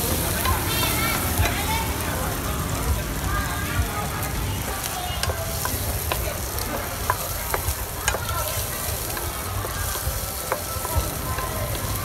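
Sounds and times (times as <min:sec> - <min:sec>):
prawns sizzling in oil: 0:00.0 - 0:12.0.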